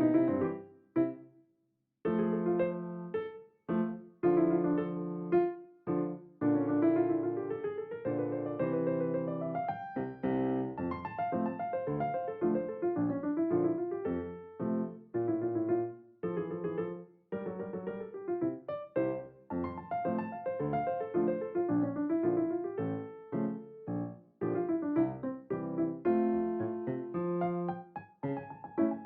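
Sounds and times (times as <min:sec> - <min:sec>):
gentle piano melody: 0:00.0 - 0:01.2, 0:02.1 - 0:29.0.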